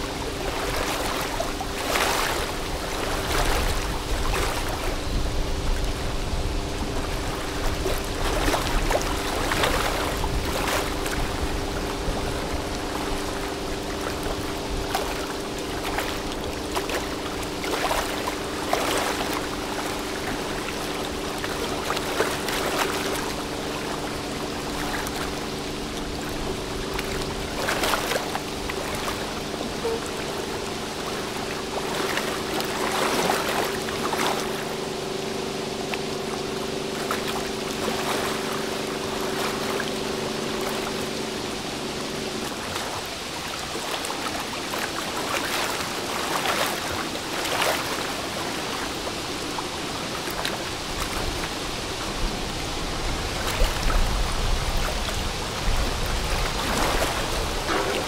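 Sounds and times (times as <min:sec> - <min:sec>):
ship engines humming: 0:00.0 - 0:47.2, 0:56.6 - 0:58.0
water splashing and lapping: 0:00.0 - 0:58.0.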